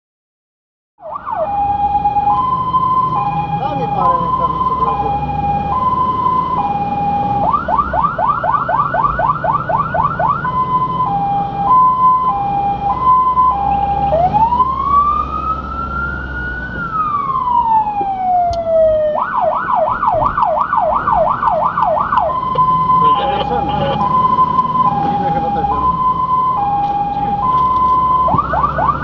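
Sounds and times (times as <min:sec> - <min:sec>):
fire engine siren: 0:01.0 - 0:29.0
truck engine humming: 0:01.5 - 0:29.0.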